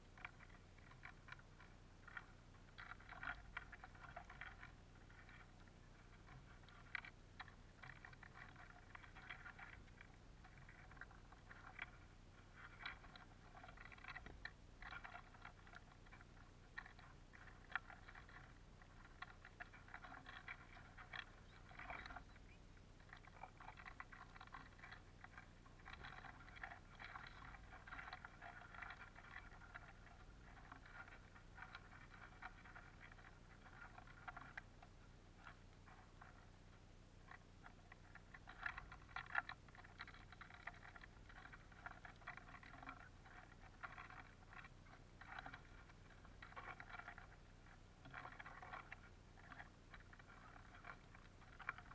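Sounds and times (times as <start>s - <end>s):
birds pecking seeds on wooden tray: 0.0s - 51.9s.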